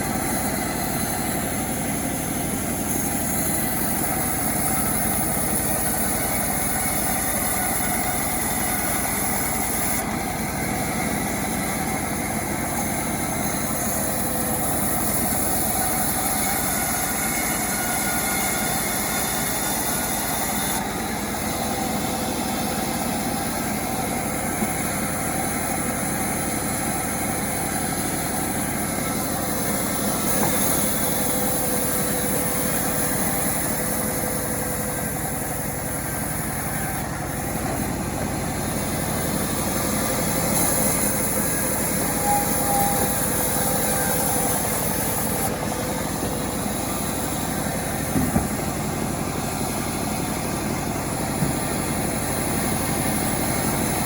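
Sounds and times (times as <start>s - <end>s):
chainsaw engine running steadily: 0.0s - 54.0s.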